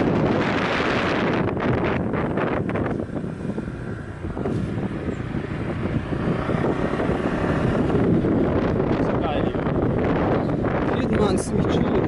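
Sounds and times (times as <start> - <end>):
motorbike engine rumble: 0.0 - 12.0
wind buffeting microphone: 0.0 - 12.0.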